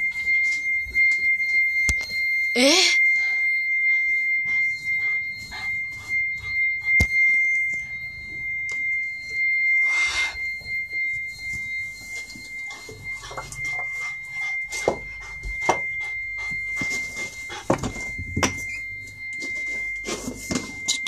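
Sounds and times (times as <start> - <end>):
alarm panel buzzer tone: 0.0 - 21.0.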